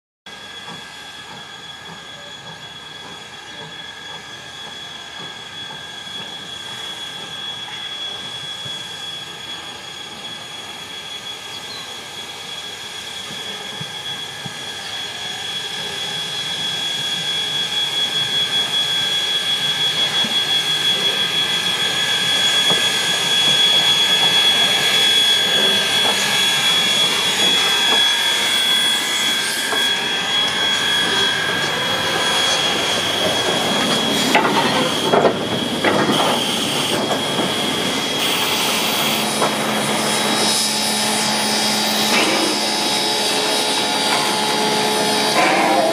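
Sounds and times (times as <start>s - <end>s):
steam locomotives passing: 0.3s - 45.9s
steady high-pitched tone: 1.9s - 45.9s.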